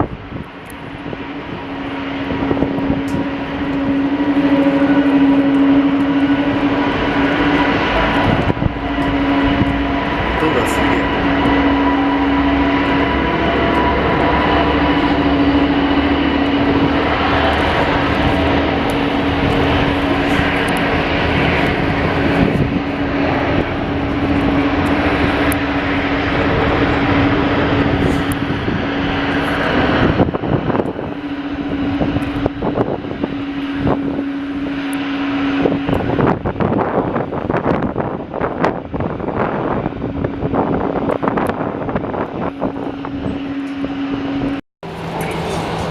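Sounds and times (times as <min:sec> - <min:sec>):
jet engine roar: 0:00.0 - 0:45.9
wind buffeting microphone: 0:00.0 - 0:45.9.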